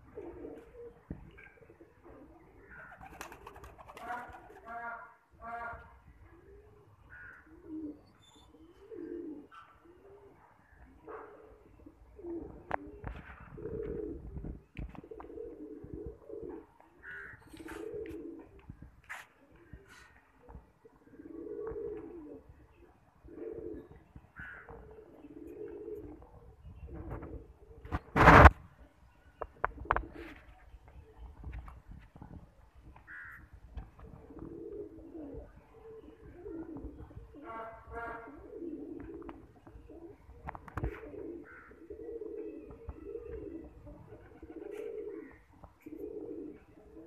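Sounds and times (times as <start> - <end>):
pigeons cooing: 0.0 - 4.8, 6.0 - 28.5, 29.6 - 30.6, 34.0 - 37.6, 38.2 - 47.0.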